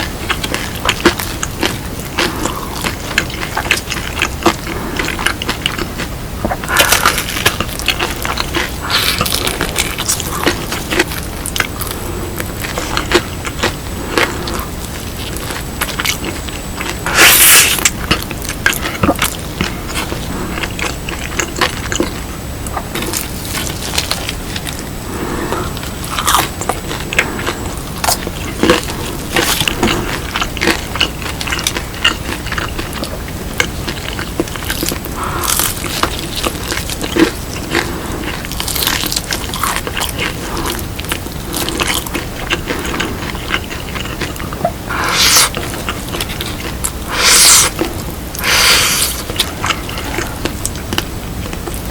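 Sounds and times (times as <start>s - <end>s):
crunching and chewing fried chicken: 0.0s - 51.9s.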